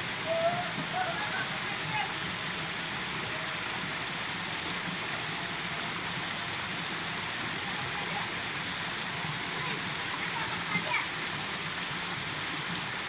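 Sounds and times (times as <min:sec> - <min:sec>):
water rushing hiss: 0:00.0 - 0:13.0.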